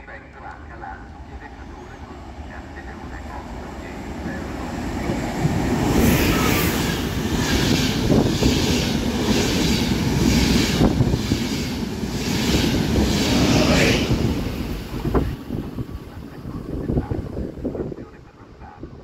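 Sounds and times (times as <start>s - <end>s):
train passing at speed: 0.6s - 18.9s
wheels rushing on rail: 1.4s - 18.0s.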